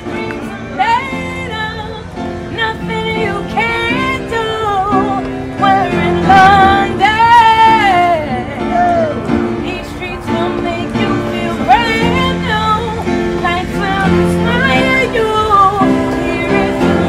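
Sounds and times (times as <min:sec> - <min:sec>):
piano chords: 0:00.0 - 0:17.0
woman singing a ballad: 0:00.0 - 0:17.0.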